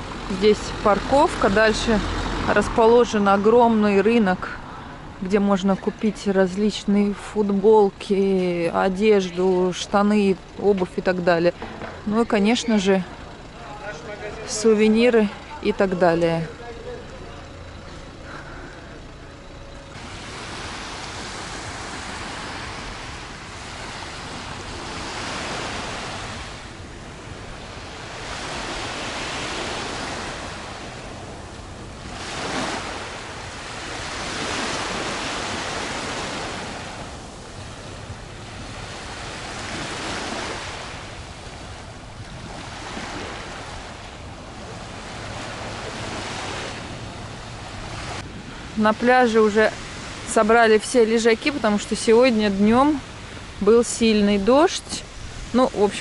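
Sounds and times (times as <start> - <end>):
sea waves breaking on beach: 0.0 - 5.2, 9.2 - 56.0.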